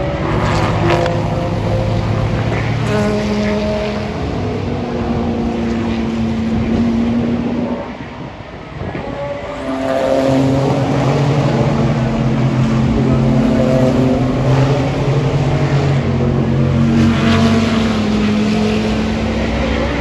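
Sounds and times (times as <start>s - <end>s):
race car engines at high revs: 0.0s - 20.0s.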